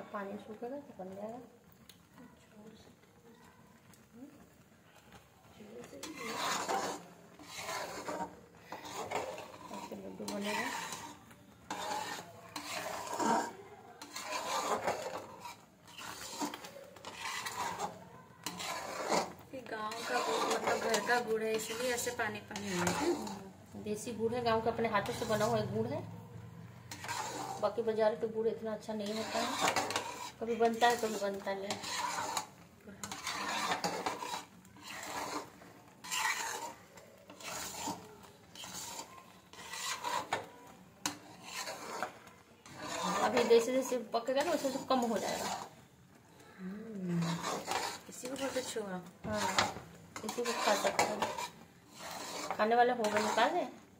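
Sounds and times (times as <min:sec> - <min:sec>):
utensil scraping bottom of pan: 0:05.8 - 0:26.0, 0:26.8 - 0:45.9, 0:47.1 - 0:53.8.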